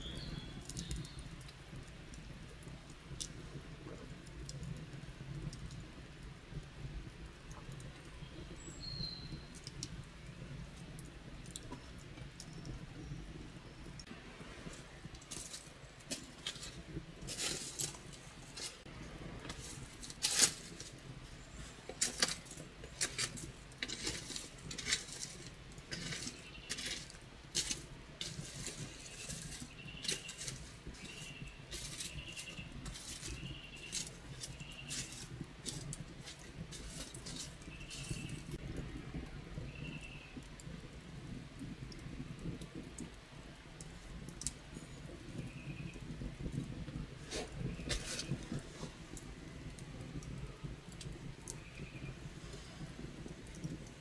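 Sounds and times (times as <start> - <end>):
campfire crackling: 0.0 - 54.0
fire popping and snapping: 0.0 - 54.0.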